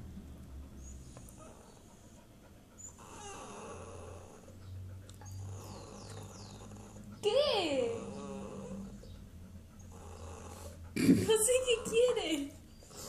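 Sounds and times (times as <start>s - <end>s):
dog whining and whimpering: 0.8s - 13.0s.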